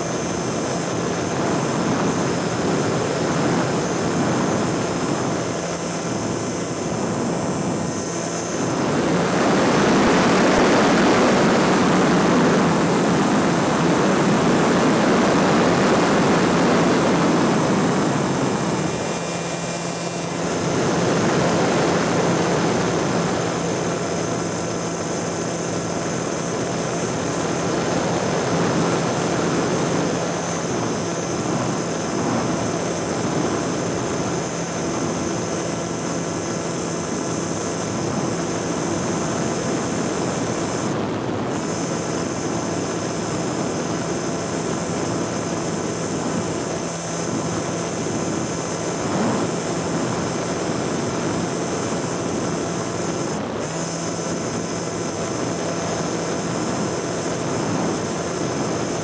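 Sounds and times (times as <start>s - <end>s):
aircraft motor and propeller: 0.0s - 59.0s.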